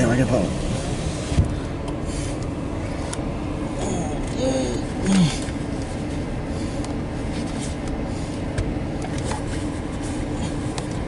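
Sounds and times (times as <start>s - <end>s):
air conditioning running: 0.0s - 11.0s
car engine idling: 0.0s - 11.0s.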